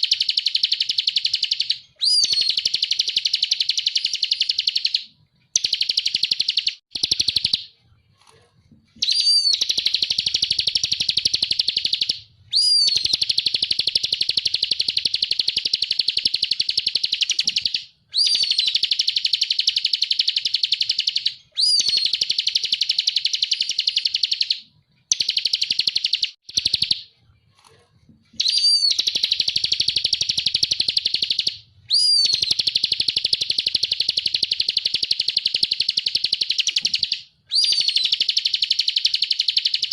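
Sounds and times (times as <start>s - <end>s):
bird singing fast trills: 0.0s - 7.7s, 9.0s - 27.0s, 28.4s - 39.9s.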